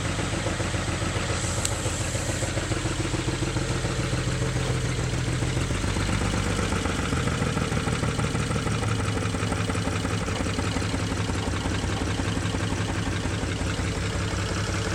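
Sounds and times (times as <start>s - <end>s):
car engine idling with misfire: 0.0s - 14.9s.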